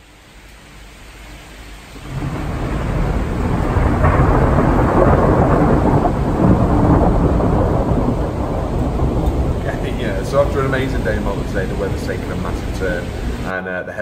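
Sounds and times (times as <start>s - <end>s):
heavy rain: 0.0s - 13.6s
thunder rumbling: 1.9s - 13.6s.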